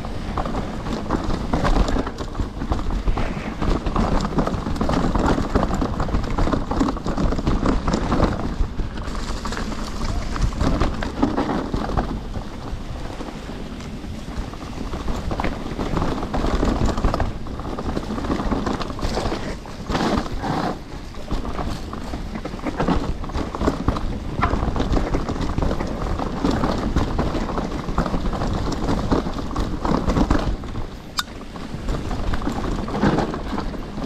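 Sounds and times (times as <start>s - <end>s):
bike clattering: 0.0s - 34.0s
tyres rumbling over dirt: 0.0s - 34.0s.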